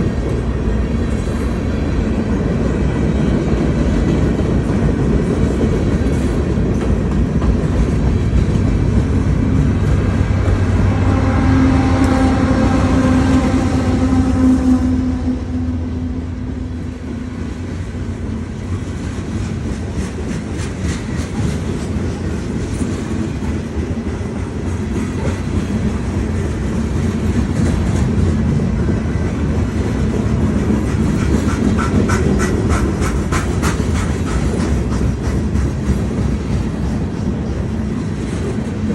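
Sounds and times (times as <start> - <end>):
freight cars rumbling: 0.0 - 38.9.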